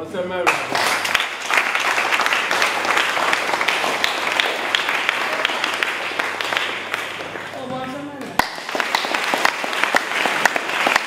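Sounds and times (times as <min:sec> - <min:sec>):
crowd applauding: 0:00.5 - 0:11.0.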